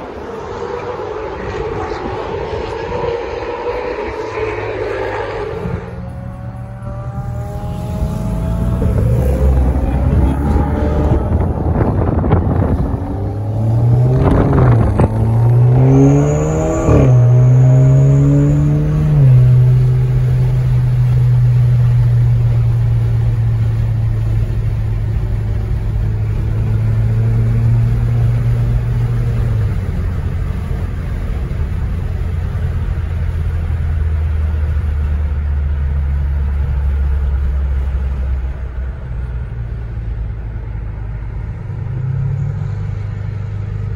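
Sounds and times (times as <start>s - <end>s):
road and tyre noise: 0.0s - 43.9s
car engine running: 4.0s - 41.9s.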